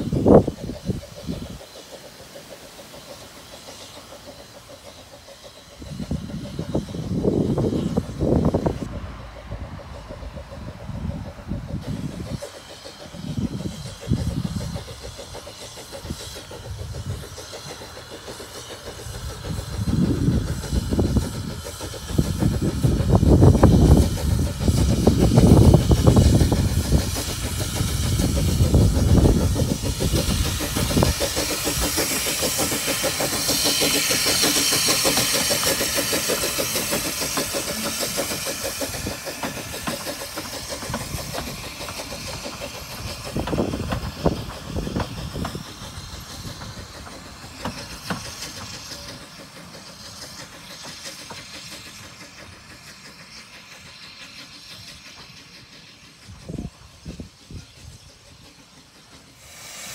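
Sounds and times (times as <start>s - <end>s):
steam hiss: 0.0s - 59.9s
steam locomotive chuffing: 0.0s - 59.9s
wheels rumbling on rails: 0.0s - 59.9s.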